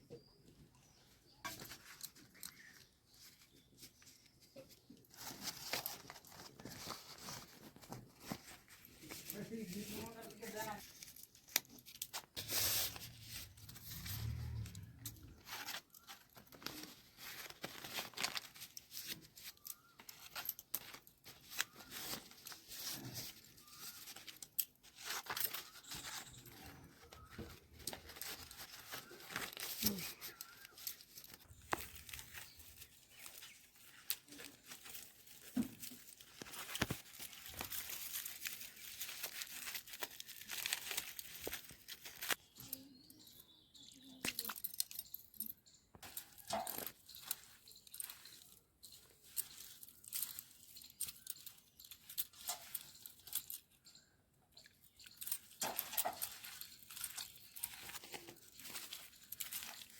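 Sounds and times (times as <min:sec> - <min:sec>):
rustling and crinkling: 0:00.0 - 0:59.9.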